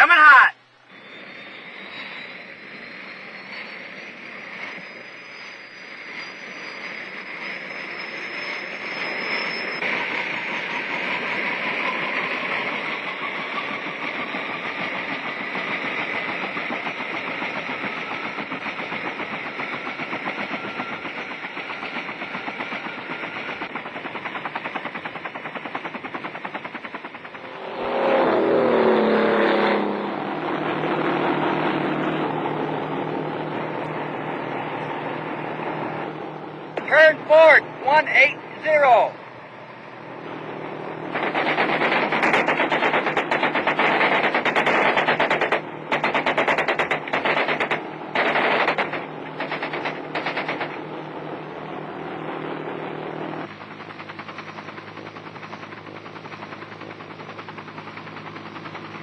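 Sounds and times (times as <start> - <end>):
helicopter rotor running: 0.0 - 59.0
helicopter turbine whine: 0.0 - 59.0
boat engine running at speed: 4.3 - 59.0.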